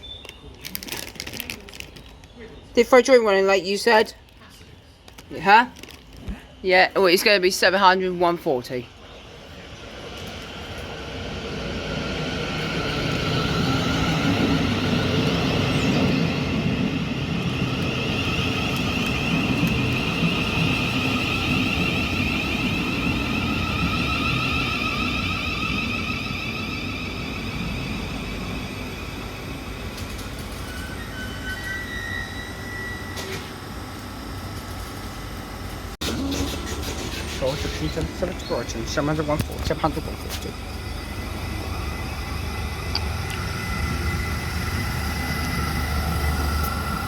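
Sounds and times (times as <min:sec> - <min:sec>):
electric train passing: 0:06.6 - 0:47.0.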